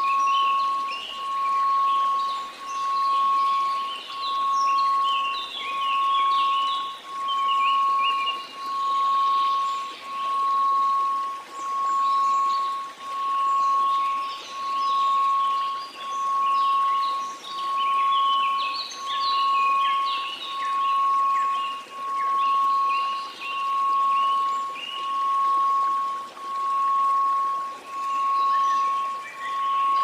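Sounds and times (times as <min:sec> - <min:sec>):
pulsing sine tone: 0:00.0 - 0:30.0
tinkling chime-like notes: 0:00.0 - 0:30.0
white noise hiss: 0:00.0 - 0:30.0.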